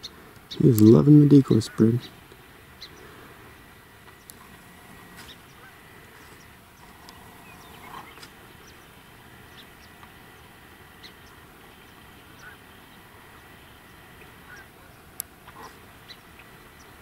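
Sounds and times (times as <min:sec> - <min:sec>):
ducks calling: 0:00.0 - 0:17.0
low background noise: 0:00.0 - 0:17.0.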